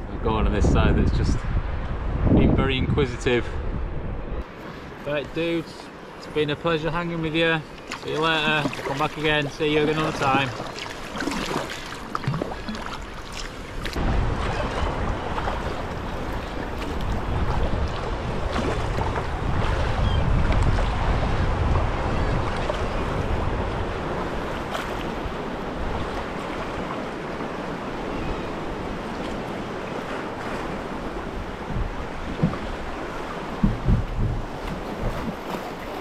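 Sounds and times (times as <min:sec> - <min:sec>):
wind rumbling on microphone: 0:00.0 - 0:05.6, 0:11.2 - 0:36.0
water lapping around kayak: 0:04.4 - 0:36.0.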